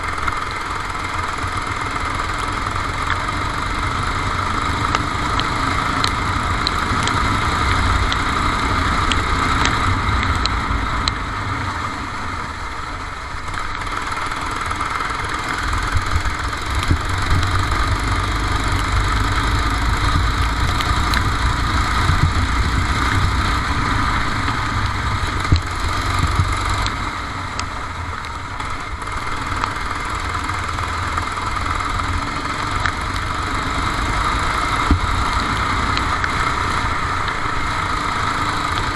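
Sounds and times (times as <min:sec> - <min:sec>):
kart engine racing: 0:00.0 - 0:38.9.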